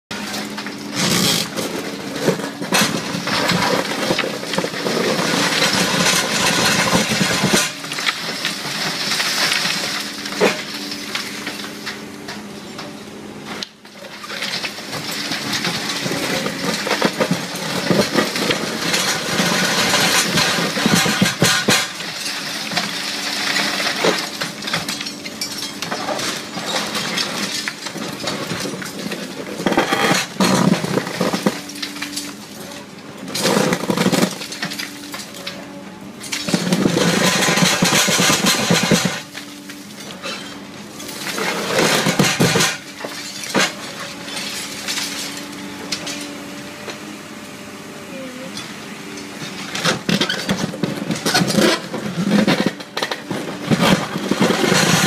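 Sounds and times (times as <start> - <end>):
concrete grinding and crumbling: 0.1 - 47.4, 48.6 - 55.0
excavator engine and hydraulics hum: 0.1 - 55.0
sharp cracks of concrete breaking: 0.2 - 11.6, 14.0 - 32.5, 33.2 - 35.5, 36.2 - 39.8, 41.0 - 45.4, 49.7 - 55.0.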